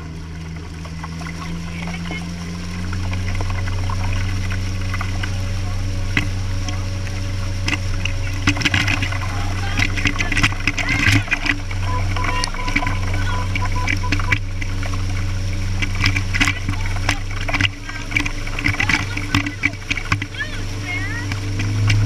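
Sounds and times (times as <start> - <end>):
low engine drone: 0.0 - 22.0
water splashing against boat hull: 0.0 - 22.0.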